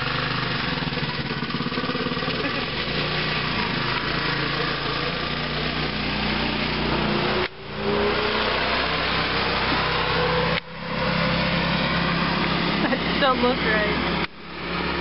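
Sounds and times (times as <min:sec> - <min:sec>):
pickup truck driving past: 0:00.0 - 0:15.0
small engine running: 0:00.0 - 0:15.0.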